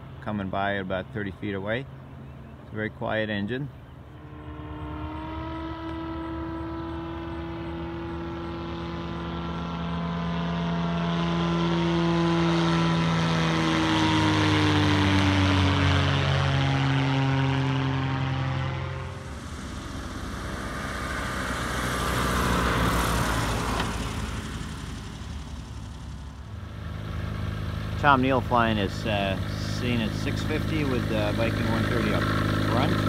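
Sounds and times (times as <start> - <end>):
plane engine running: 0.0 - 33.0
propeller plane passing overhead: 0.0 - 33.0.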